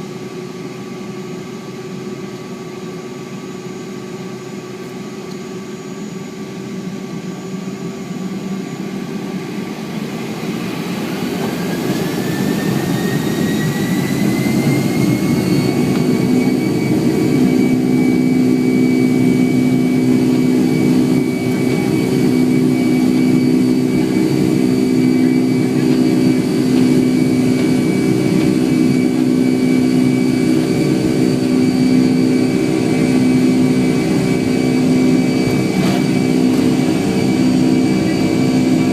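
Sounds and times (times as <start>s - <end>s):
jet engines spooling up: 0.0s - 38.9s.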